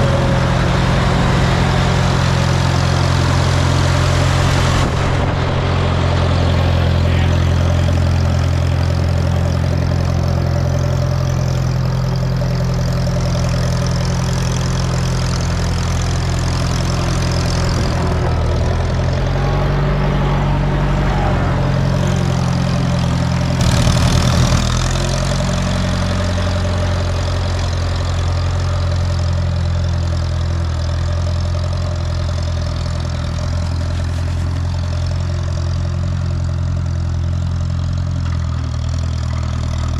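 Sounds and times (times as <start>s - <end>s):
road grader engine running: 0.0s - 39.9s.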